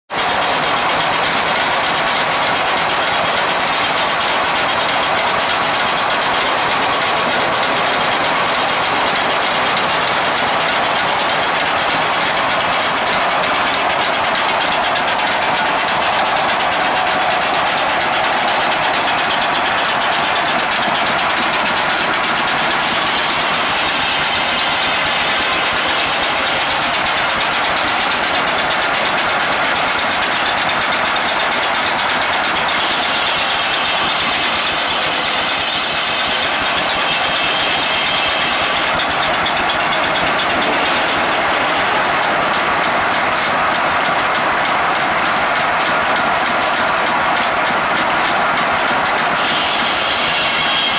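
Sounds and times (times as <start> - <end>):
sawmill machinery running: 0.1 - 50.9.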